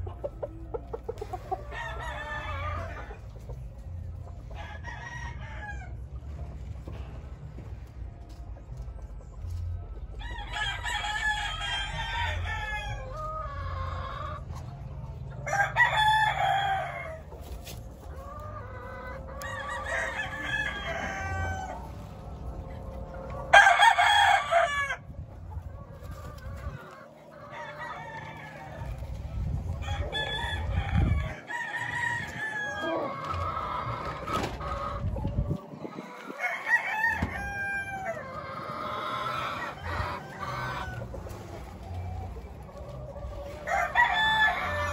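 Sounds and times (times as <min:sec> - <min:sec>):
roosters crowing: 0:00.0 - 0:03.7, 0:04.4 - 0:06.3, 0:10.2 - 0:14.6, 0:15.3 - 0:44.9
rooster clucking: 0:00.0 - 0:06.0, 0:10.2 - 0:44.9.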